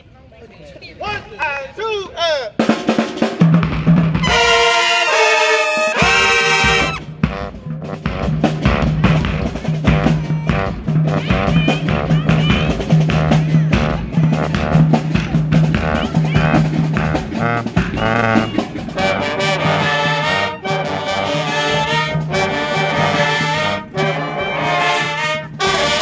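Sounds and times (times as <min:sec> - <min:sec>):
marching band drums: 0:02.4 - 0:26.0
brass and saxophone chords: 0:02.5 - 0:26.0.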